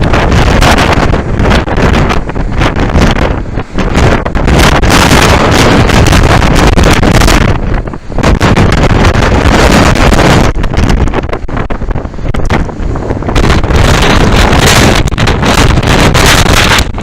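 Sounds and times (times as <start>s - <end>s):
storm wind battering microphone: 0.0s - 17.0s.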